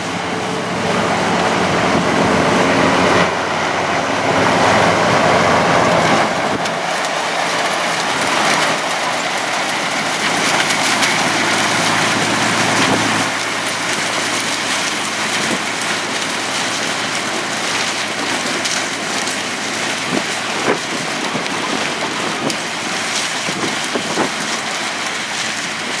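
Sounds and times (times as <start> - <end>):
harvesting machinery rushing: 0.0 - 26.0.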